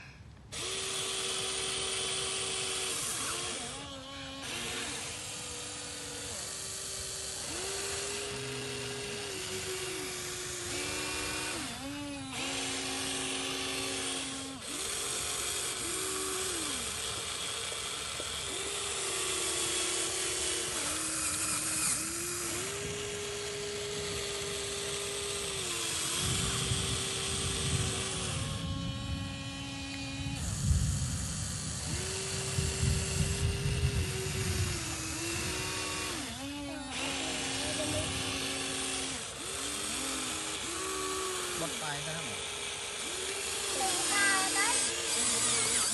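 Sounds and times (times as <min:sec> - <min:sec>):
electric motor and pump whining: 0:00.0 - 0:45.9.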